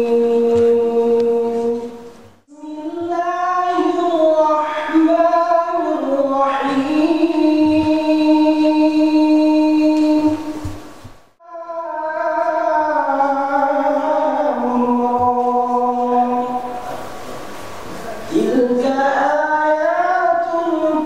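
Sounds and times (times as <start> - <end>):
man reciting melodically: 0.0 - 10.7, 11.4 - 17.3, 18.0 - 21.0.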